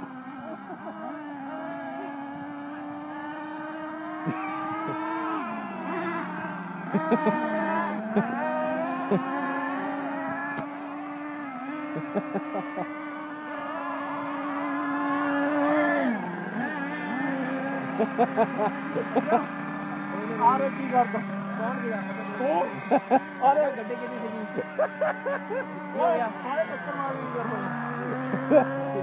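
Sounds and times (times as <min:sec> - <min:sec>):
small nitro engines revving: 0:00.0 - 0:29.0.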